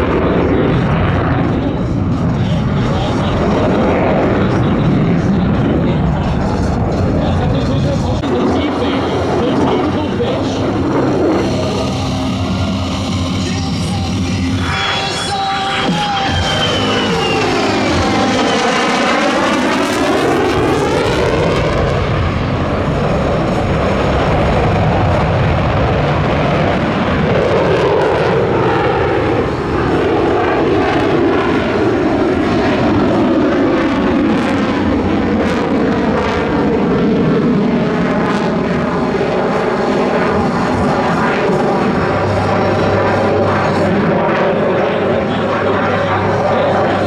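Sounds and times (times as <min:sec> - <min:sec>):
jet fighter flying past: 0:00.0 - 0:47.0.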